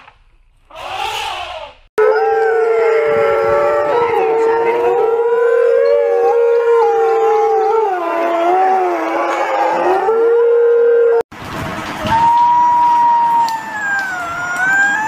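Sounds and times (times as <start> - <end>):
wolves howling: 2.0 - 11.2, 12.1 - 15.0.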